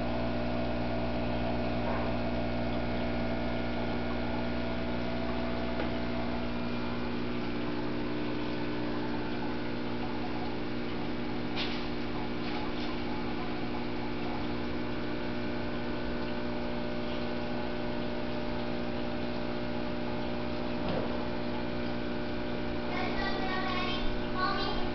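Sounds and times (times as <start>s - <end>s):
aquarium pump hum: 0.0s - 24.9s
running water: 0.1s - 24.9s.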